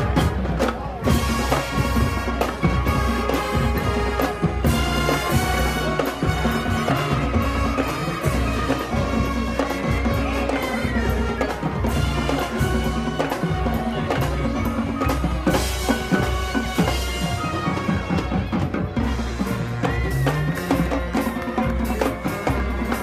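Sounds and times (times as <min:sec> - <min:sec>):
bass drums and snare beat: 0:00.0 - 0:23.0
marching band playing rock: 0:00.0 - 0:23.0.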